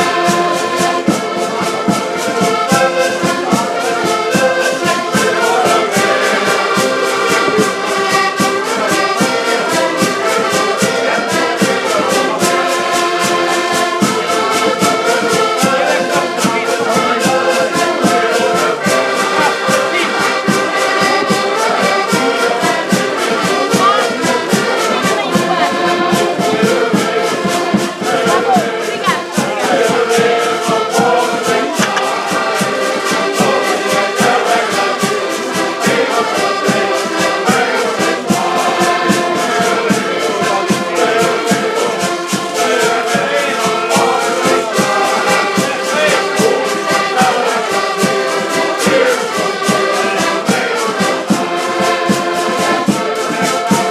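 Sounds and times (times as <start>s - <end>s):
accordions playing a lively tune: 0.0s - 53.9s.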